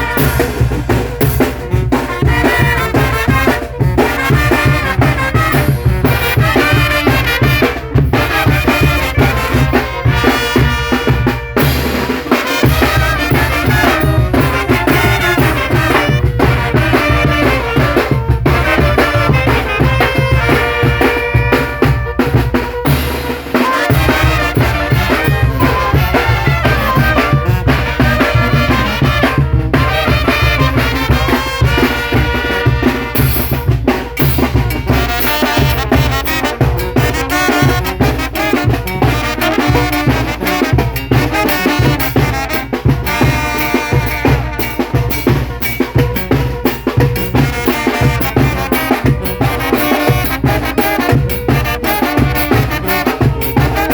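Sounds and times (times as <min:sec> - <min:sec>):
brass band playing: 0:00.0 - 0:53.9
drum and bass beat: 0:00.0 - 0:53.9.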